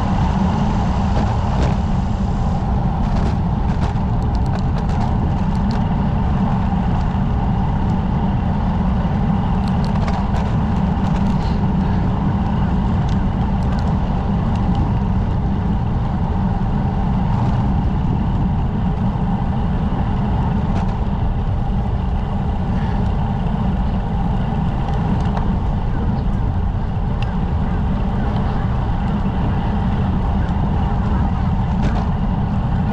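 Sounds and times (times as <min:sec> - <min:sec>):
bicycle road noise: 0:00.0 - 0:32.9
wind rumble: 0:00.0 - 0:32.9.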